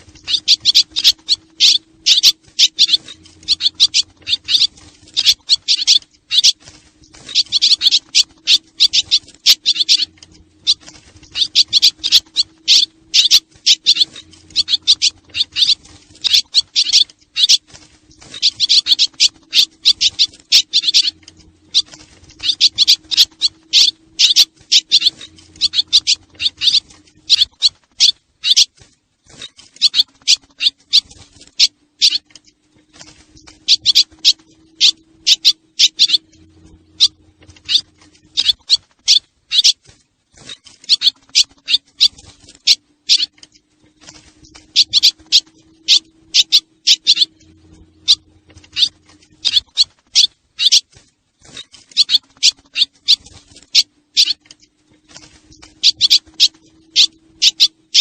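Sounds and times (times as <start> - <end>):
faint low hum: 0.0 - 58.0
swallows twittering: 0.0 - 58.0.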